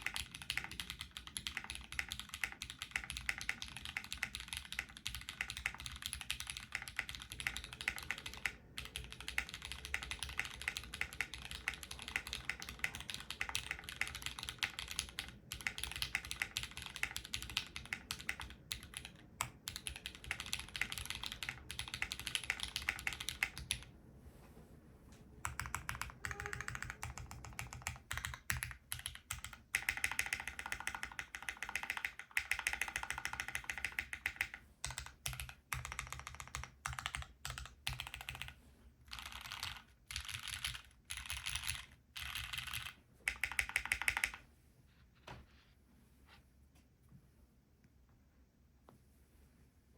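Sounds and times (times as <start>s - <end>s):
mechanical keyboard typing: 0.0s - 23.9s, 25.4s - 44.4s.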